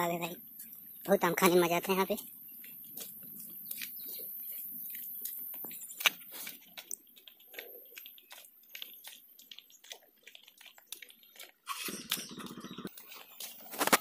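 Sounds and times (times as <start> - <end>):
flip-flop footsteps on wet gravel: 0.2 - 14.0.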